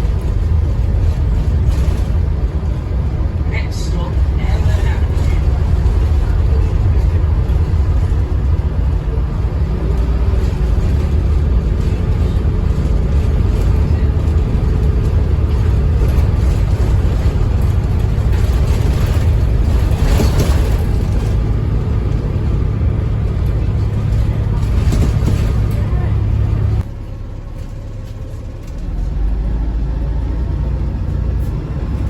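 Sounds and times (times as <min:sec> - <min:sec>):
bus engine rumbling: 0:00.0 - 0:32.0.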